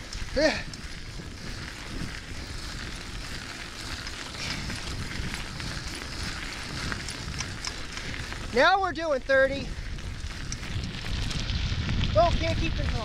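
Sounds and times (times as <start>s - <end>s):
gravel crackling under tyres: 0.0s - 13.0s
wind and tyre rumble: 0.0s - 13.0s.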